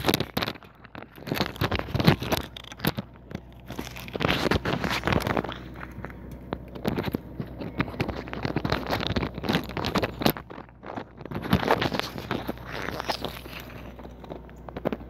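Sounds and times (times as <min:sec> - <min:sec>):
close rustling of clothing: 0:00.0 - 0:15.0.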